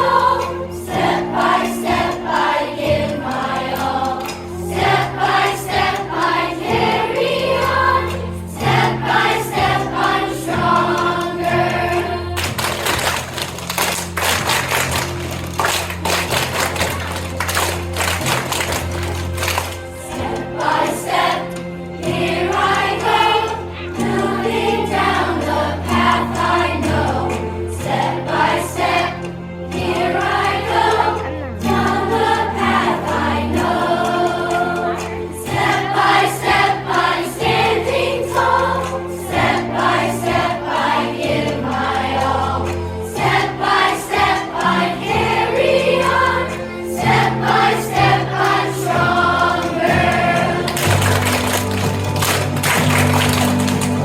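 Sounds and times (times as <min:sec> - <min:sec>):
choir singing: 0:00.0 - 0:13.4, 0:15.7 - 0:54.0.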